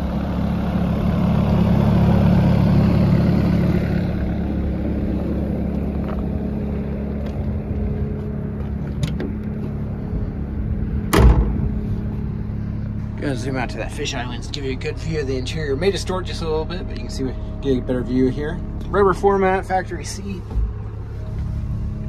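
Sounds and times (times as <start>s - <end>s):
excavator diesel engine idling: 0.0s - 22.0s.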